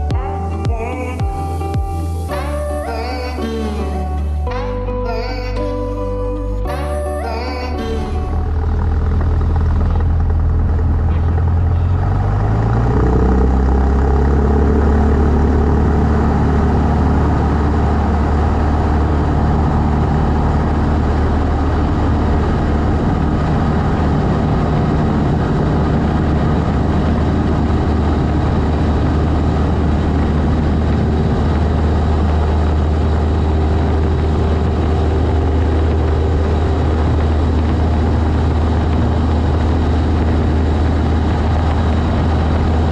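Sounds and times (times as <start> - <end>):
light aircraft engine and propeller: 6.7 - 42.9.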